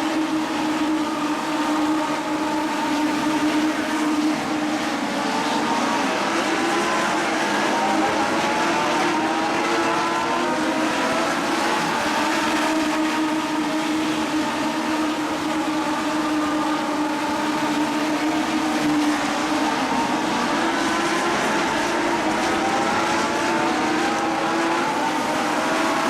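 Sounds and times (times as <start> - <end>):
race car engines accelerating: 0.0 - 26.0.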